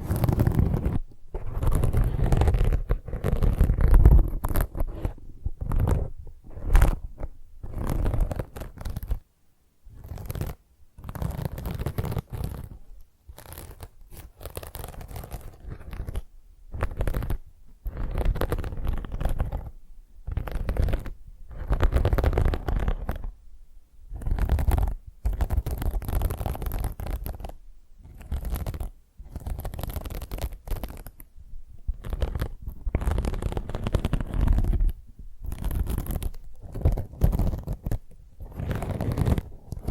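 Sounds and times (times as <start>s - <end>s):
scouring sponge scratching: 0.0s - 9.2s, 9.9s - 19.7s, 20.3s - 23.3s, 24.1s - 31.2s, 31.9s - 39.9s.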